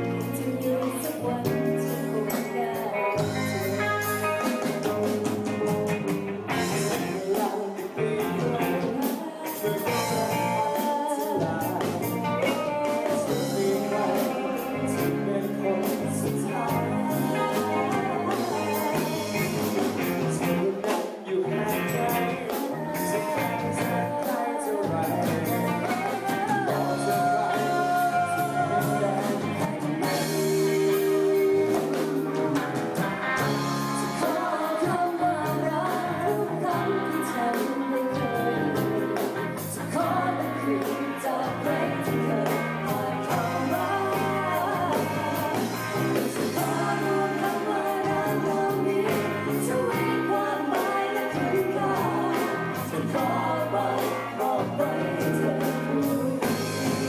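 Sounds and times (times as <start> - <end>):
band with steady beat: 0.0 - 57.0
person singing: 0.0 - 57.0.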